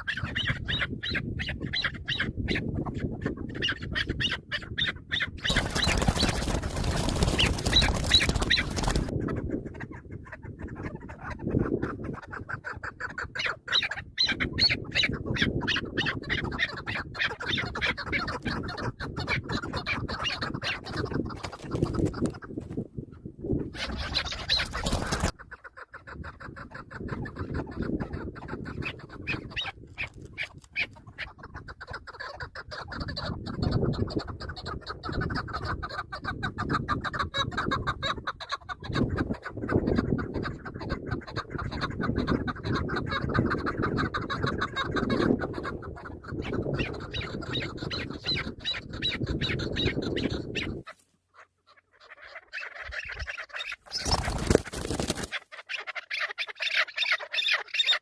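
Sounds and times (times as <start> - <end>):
partridge calling: 0.0 - 22.6, 23.2 - 58.0.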